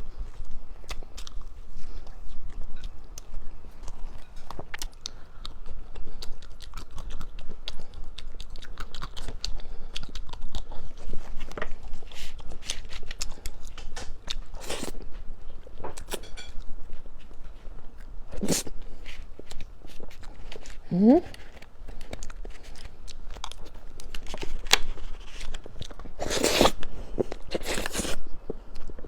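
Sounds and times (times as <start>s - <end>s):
chewing crunchy food: 0.0s - 29.0s.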